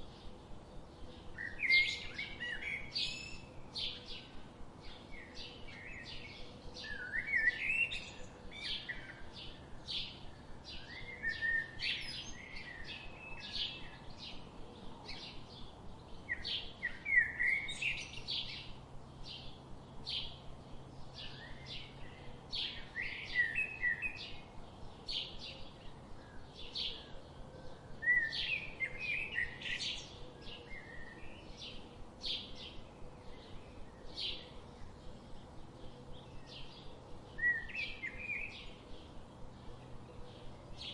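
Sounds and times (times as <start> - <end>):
bird warbling song: 0.0 - 40.9
songbirds chirping: 0.0 - 40.9.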